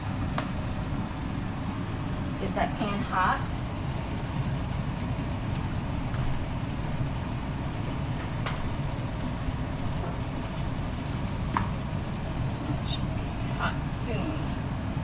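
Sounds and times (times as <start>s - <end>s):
kitchen exhaust fan running: 0.0s - 15.0s.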